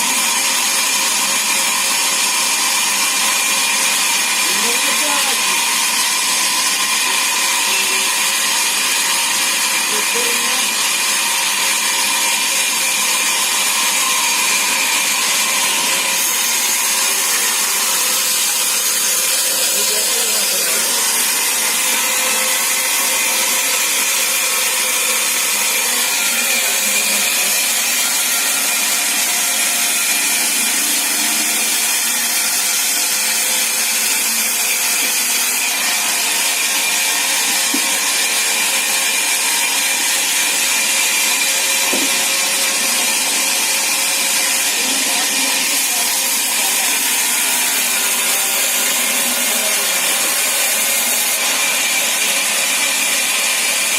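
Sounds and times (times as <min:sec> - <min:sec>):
saw cutting through timber: 0:00.0 - 0:53.9.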